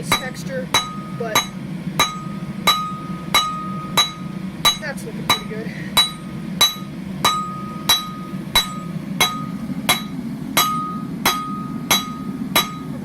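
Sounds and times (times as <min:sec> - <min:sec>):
hammer striking steel on anvil: 0:00.0 - 0:13.0.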